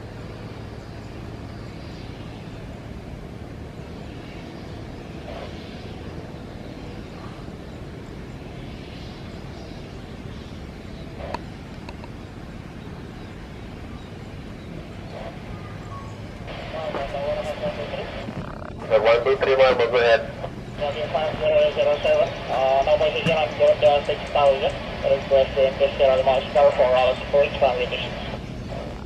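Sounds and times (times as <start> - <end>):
distant vehicle engines rumbling: 0.0 - 29.0.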